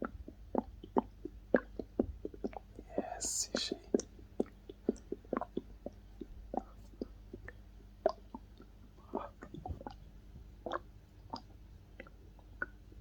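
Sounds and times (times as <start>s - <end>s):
stomach gurgling: 0.0s - 13.0s.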